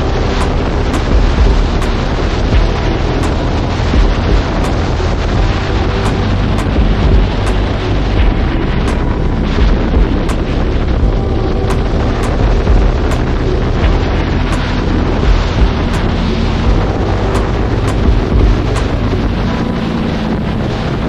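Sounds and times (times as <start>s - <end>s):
motorcycle engine running: 0.0s - 7.6s, 8.2s - 19.4s
wind buffeting microphone: 0.0s - 21.0s.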